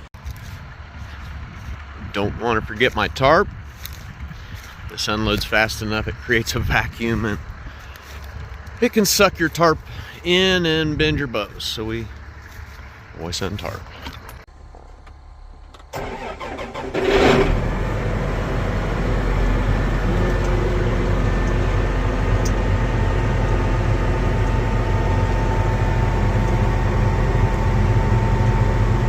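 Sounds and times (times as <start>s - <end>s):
diesel engine starting and running: 0.0s - 29.0s.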